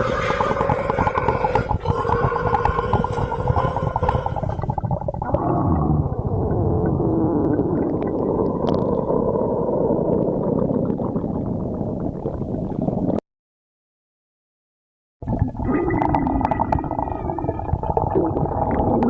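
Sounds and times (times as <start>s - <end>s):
stomach growling: 0.0s - 13.2s, 15.2s - 19.0s.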